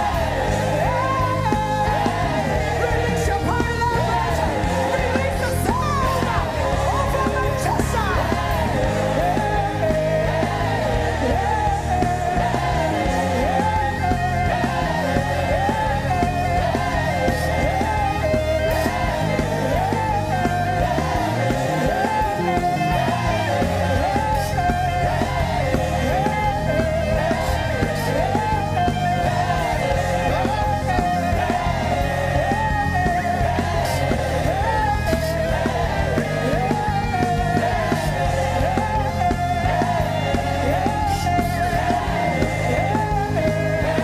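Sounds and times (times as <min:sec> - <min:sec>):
live worship band with singing: 0:00.0 - 0:44.0.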